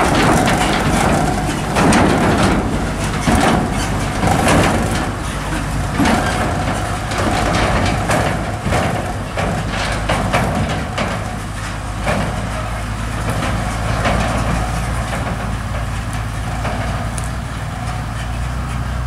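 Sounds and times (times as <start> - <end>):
tractor engine drone: 0.0 - 19.0
trailer rattling and knocking: 0.0 - 19.0.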